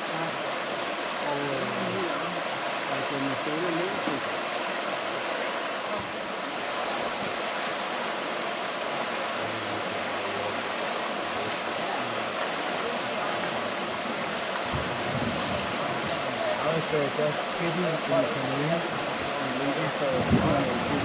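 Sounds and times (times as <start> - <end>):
stream rushing over stones: 0.0 - 21.0.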